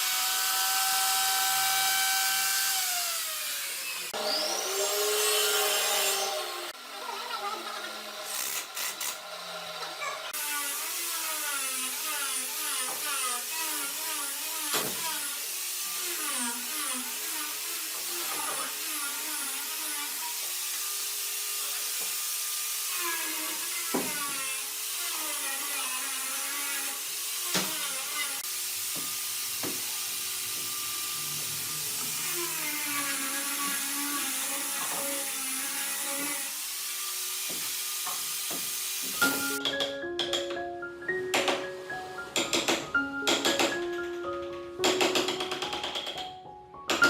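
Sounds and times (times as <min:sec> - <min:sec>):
power tool whining: 0:00.0 - 0:39.9.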